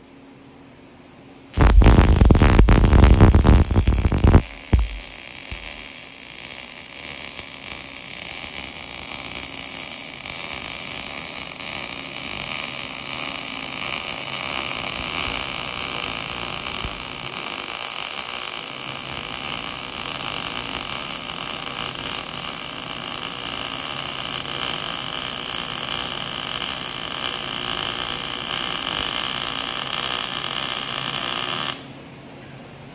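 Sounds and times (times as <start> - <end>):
arc welding sizzle: 1.5 - 31.9.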